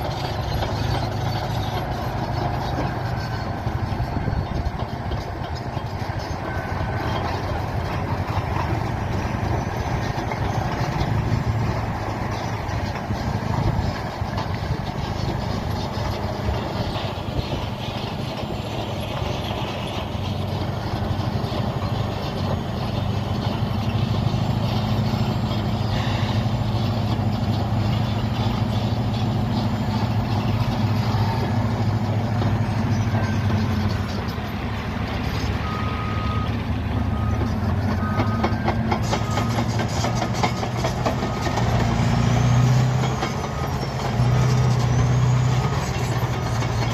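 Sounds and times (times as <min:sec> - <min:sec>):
steel tracks clattering: 0:00.0 - 0:35.7, 0:36.5 - 0:46.9
bulldozer diesel engine: 0:00.0 - 0:46.9.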